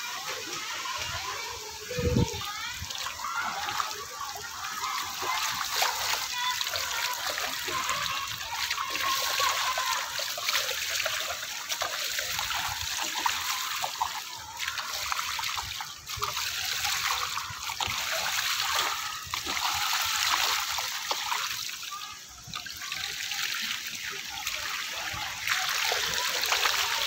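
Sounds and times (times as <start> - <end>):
running and splashing water: 0.0 - 27.0.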